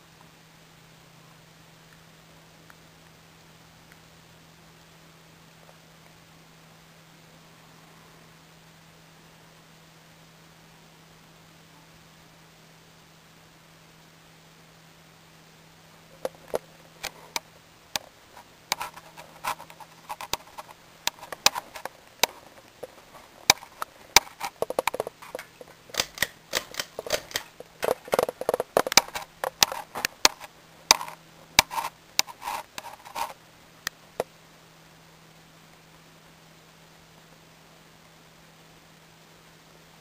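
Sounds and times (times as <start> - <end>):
ceiling fan motor hum: 0.0 - 40.0.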